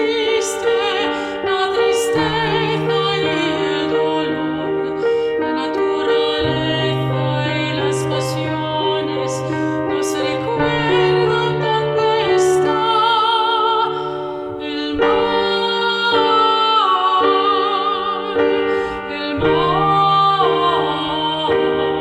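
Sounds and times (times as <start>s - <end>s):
soprano singing operatic style: 0.0s - 22.0s.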